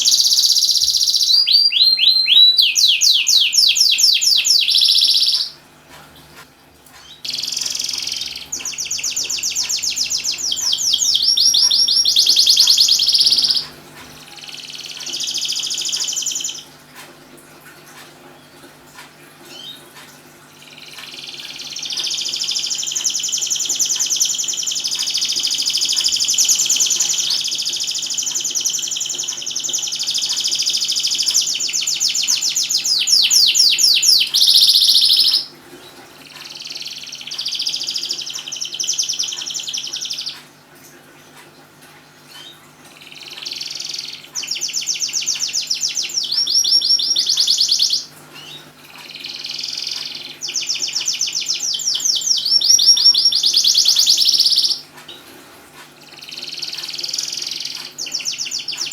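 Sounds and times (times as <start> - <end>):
canary singing trills: 0.0 - 5.6, 6.9 - 16.8, 19.4 - 40.6, 42.3 - 55.2, 56.0 - 58.9.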